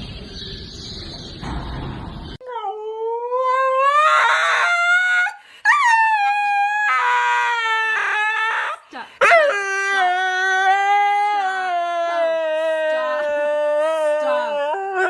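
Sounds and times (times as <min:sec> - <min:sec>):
dog howling: 0:02.4 - 0:15.0.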